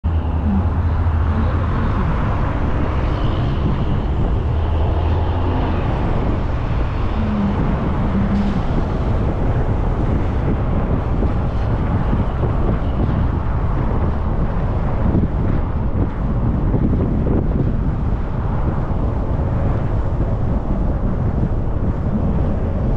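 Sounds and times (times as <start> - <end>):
car road noise inside cabin: 0.0 - 22.9.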